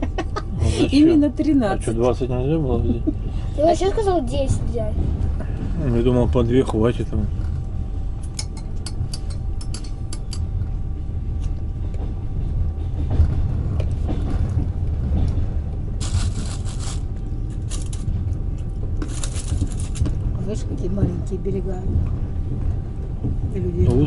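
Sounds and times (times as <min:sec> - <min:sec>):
train rumble inside carriage: 0:00.0 - 0:24.0.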